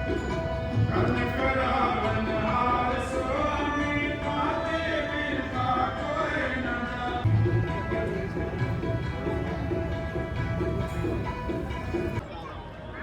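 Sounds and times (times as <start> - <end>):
held instrumental tones: 0.0 - 12.2.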